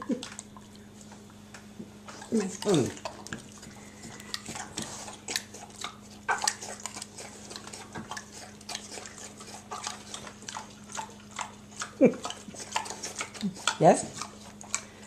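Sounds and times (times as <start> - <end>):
pig smacking and chewing: 0.0 - 15.0.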